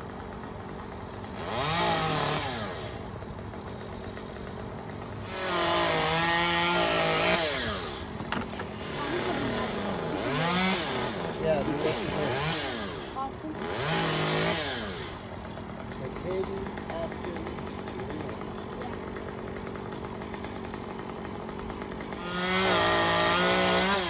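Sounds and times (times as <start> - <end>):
chainsaw idling and revving: 0.0 - 24.0.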